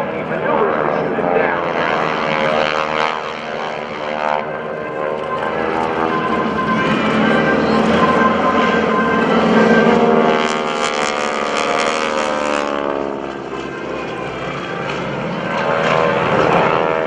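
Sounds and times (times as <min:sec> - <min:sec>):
propeller aircraft passing low: 0:00.0 - 0:17.0.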